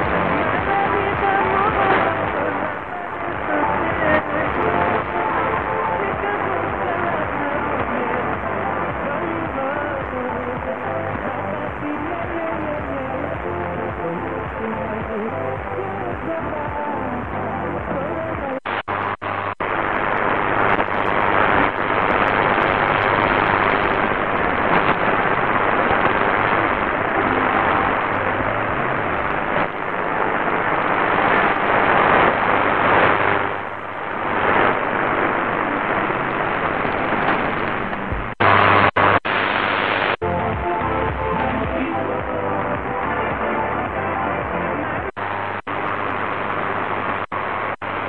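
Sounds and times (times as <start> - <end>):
music through radio noise: 0.0 - 48.0
radio static and hiss: 0.0 - 48.0.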